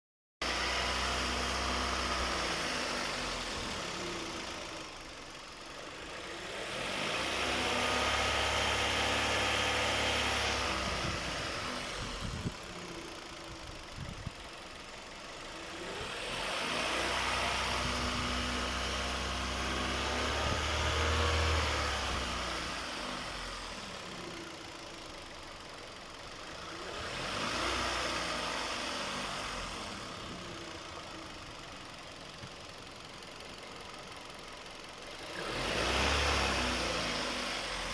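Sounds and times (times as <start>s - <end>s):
car engine revving: 0.4s - 5.0s, 5.8s - 13.7s, 15.4s - 32.4s, 35.1s - 37.9s.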